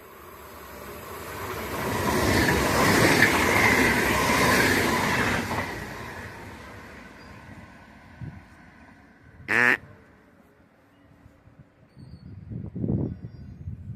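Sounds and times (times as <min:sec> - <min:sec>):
train rushing and rattling on rails: 0:00.0 - 0:13.9.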